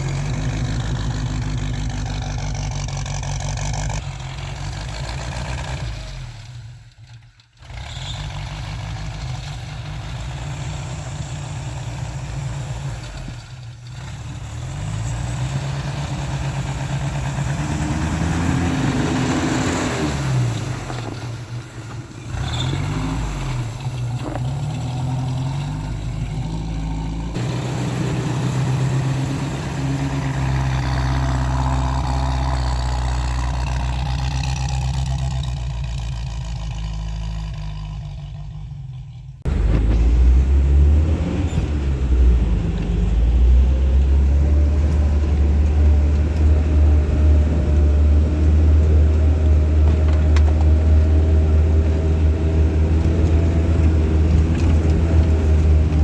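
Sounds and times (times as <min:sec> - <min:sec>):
vehicle engine revving: 0:00.0 - 0:06.8, 0:07.6 - 0:56.0.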